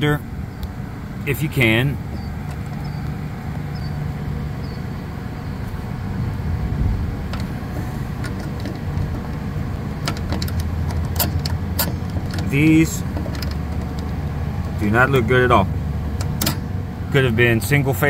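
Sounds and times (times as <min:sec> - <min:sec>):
refrigeration unit drone: 0:00.0 - 0:18.0.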